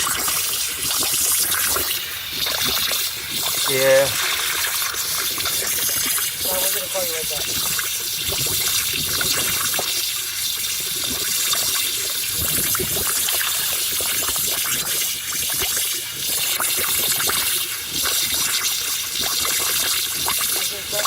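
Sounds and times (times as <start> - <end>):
small water drips: 0.0 - 21.0
water trickling into a hole: 0.0 - 21.0.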